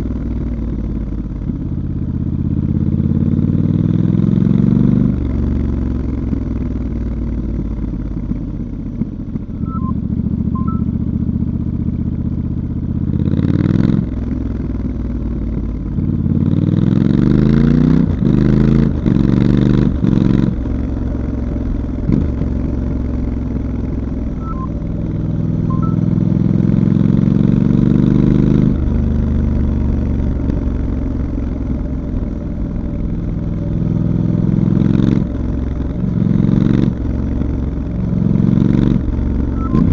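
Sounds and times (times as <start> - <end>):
motorcycle engine revving: 1.8 - 39.9.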